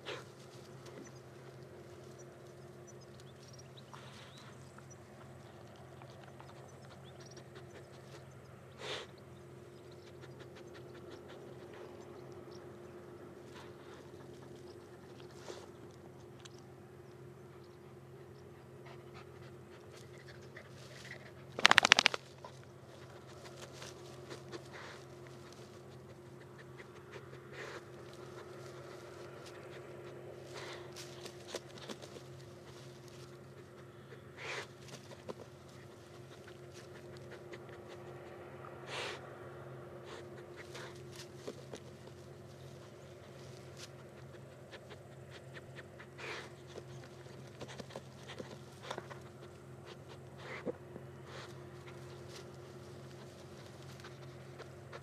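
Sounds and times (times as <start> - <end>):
steady low hum: 0.0 - 55.0
dog panting: 3.3 - 16.3, 17.2 - 39.3, 39.9 - 55.0.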